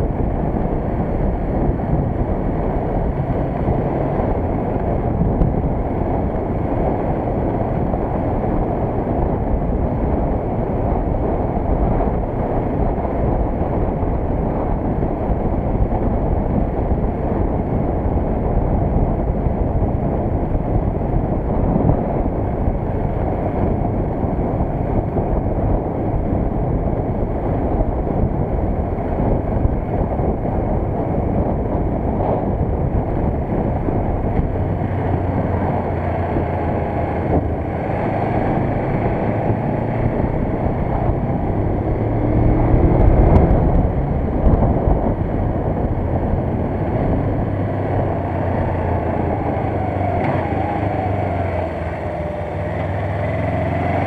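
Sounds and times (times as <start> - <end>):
motorcycle engine: 0.0 - 54.0
road noise: 0.0 - 54.0
wind rumble on microphone: 0.0 - 54.0.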